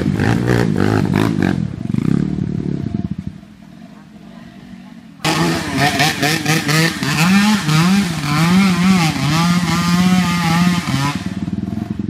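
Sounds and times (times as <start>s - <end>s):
dirt bike engine revving: 0.0s - 3.3s, 5.2s - 12.0s.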